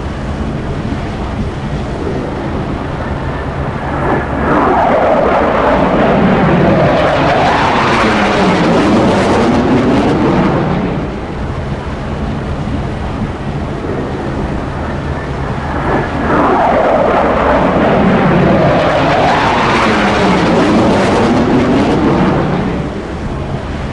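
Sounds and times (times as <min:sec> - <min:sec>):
jet passing low overhead: 0:00.0 - 0:23.9.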